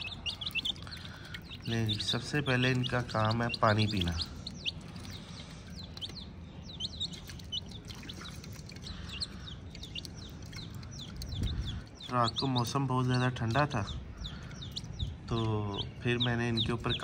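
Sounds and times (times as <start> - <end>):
chicks peeping: 0.0 - 17.0
low steady rumble: 0.0 - 17.0.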